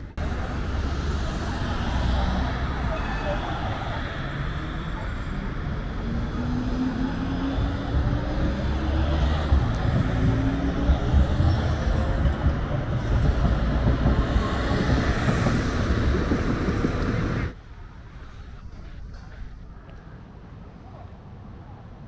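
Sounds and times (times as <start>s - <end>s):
cars passing: 0.0s - 22.0s
road noise: 0.0s - 22.0s.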